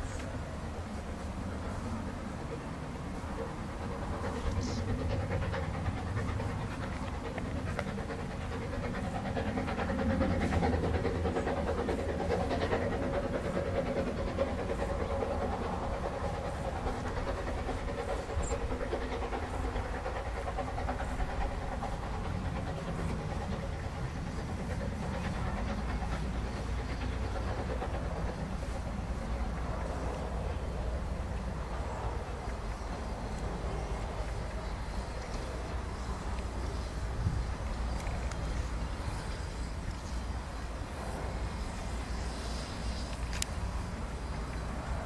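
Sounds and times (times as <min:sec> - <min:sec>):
steam locomotive chuffing: 0:00.0 - 0:45.0.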